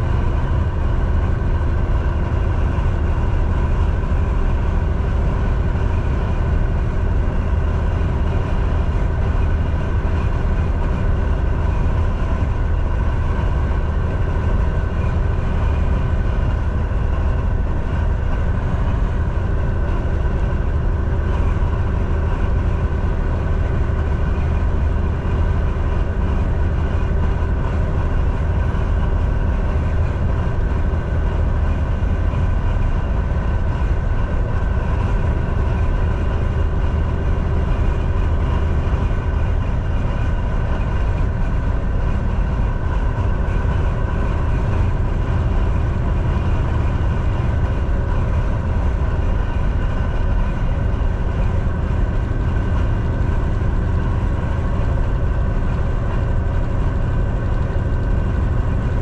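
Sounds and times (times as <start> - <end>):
faint steady whine: 0.0 - 59.0
truck engine drone: 0.0 - 59.0.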